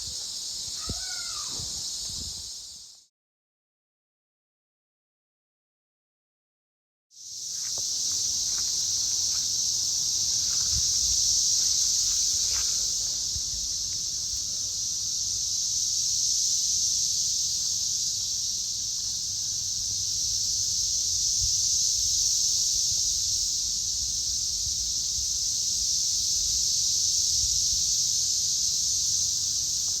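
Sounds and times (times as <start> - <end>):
cicadas droning: 0.0 - 3.1, 7.2 - 30.0.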